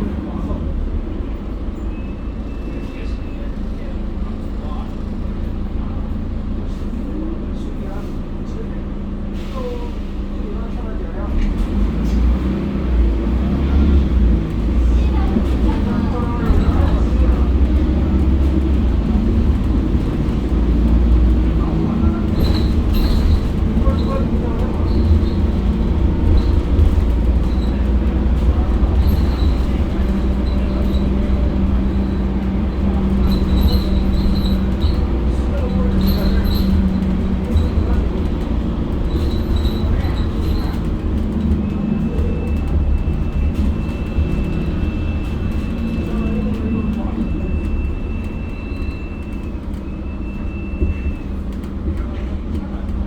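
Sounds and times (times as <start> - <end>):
bus engine low drone: 0.0 - 53.0.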